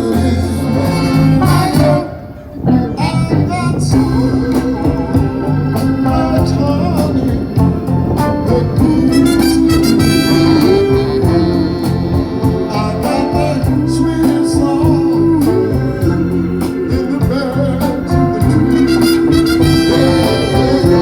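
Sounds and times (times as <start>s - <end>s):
bass: 0.0s - 21.0s
held organ-like keyboard notes: 0.0s - 21.0s
soul band playing: 0.0s - 21.0s
steady drum beat: 3.9s - 21.0s.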